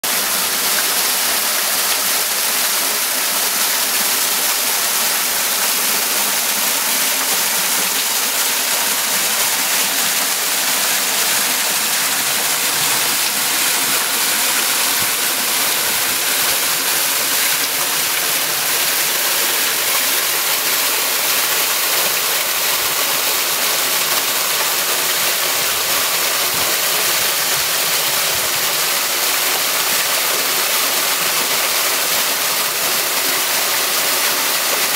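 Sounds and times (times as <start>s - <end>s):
water cascading into pool: 0.0s - 34.9s.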